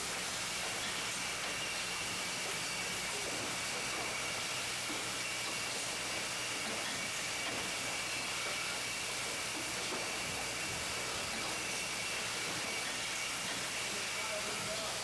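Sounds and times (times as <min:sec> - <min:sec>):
machine hiss: 0:00.0 - 0:15.0.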